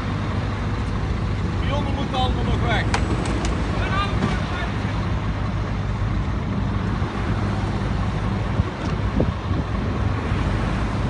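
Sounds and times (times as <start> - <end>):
heavy diesel engines running: 0.0 - 11.0.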